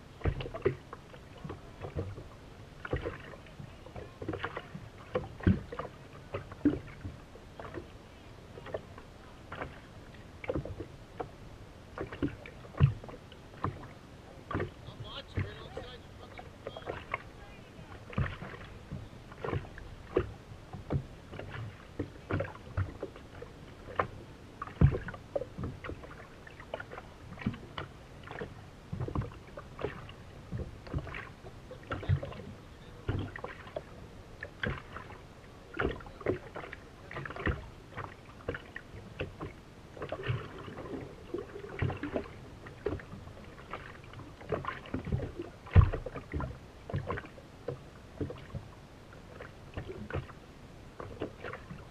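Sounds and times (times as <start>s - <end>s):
small waves slapping a boat hull: 0.0s - 51.9s.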